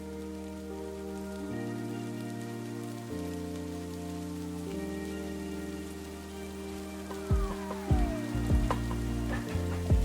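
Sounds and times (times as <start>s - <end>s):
soft music of sustained chords: 0.0s - 10.0s
steady rain falling: 0.0s - 10.0s.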